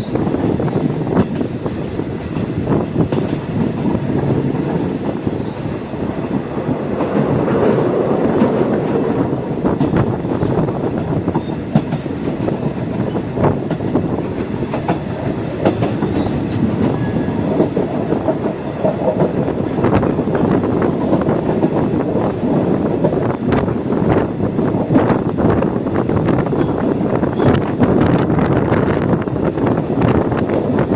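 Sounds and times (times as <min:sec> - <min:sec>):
train rumbling on track: 0:00.0 - 0:30.9.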